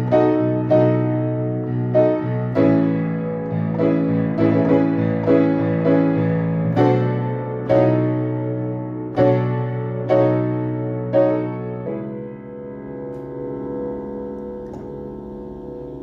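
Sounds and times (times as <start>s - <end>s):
piano chords and notes: 0.0s - 16.0s.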